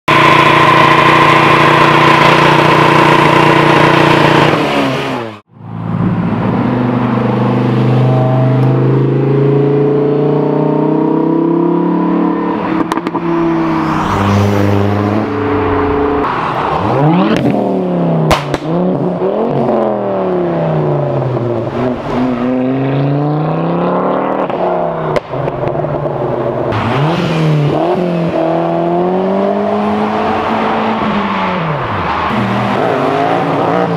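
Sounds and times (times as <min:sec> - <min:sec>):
car engines revving hard: 0:00.1 - 0:05.5, 0:06.3 - 0:33.9.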